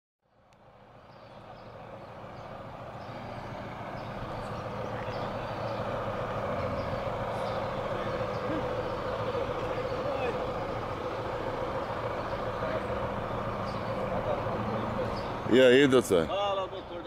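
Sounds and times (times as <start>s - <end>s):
street traffic: 0.2s - 17.0s
vehicle engine rumbling: 0.2s - 17.0s.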